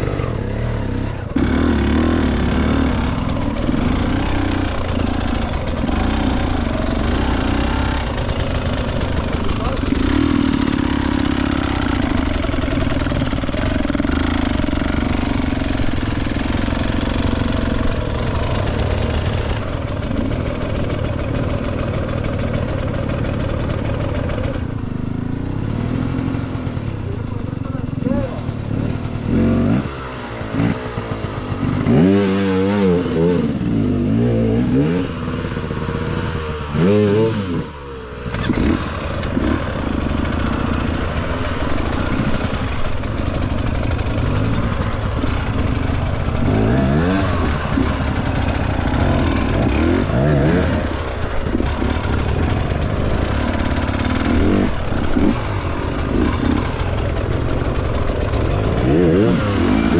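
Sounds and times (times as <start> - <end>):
constant rushing noise: 0.0 - 32.0, 33.0 - 59.9
dirt bike engine revving: 0.0 - 59.9.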